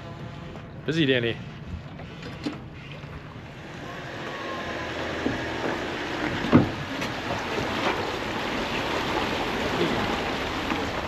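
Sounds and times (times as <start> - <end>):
steady outdoor noise: 0.0 - 11.0.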